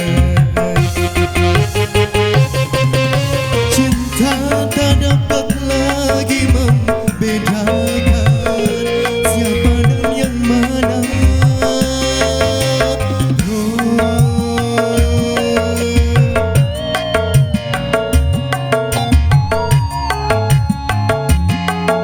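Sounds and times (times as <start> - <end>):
electronic keyboard melody: 0.0 - 22.0.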